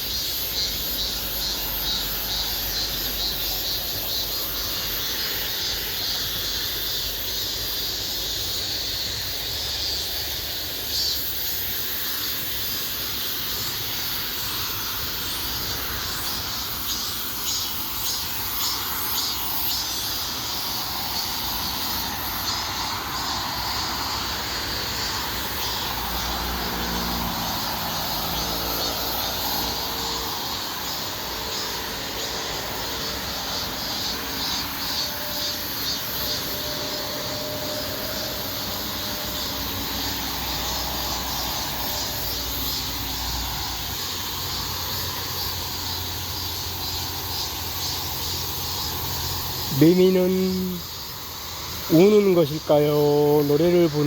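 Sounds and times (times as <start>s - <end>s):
cicadas and crickets shrilling: 0.0s - 54.0s.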